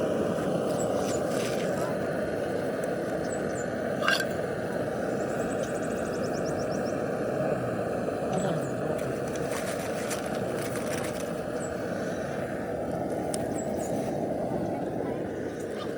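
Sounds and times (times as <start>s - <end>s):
low rumble of street noise: 0.0s - 15.9s.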